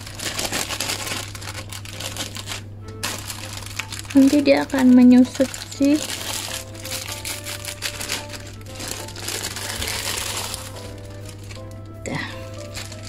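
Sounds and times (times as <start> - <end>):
plastic film crinkling: 0.0 - 13.0
soft background music: 0.0 - 13.0.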